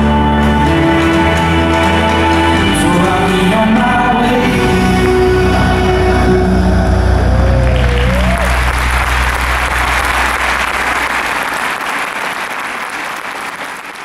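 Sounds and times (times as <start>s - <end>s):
audience applauding: 0.0s - 6.3s, 7.2s - 14.0s
music held note with bass: 0.0s - 11.7s.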